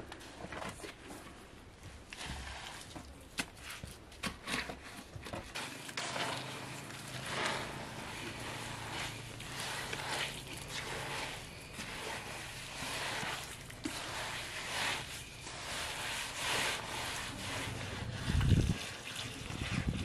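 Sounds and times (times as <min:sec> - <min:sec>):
hand scraping gritty earth: 0:02.0 - 0:20.0.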